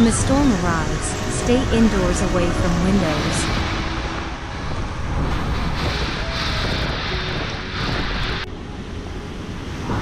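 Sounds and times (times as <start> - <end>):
hurricane wind: 0.0 - 10.0.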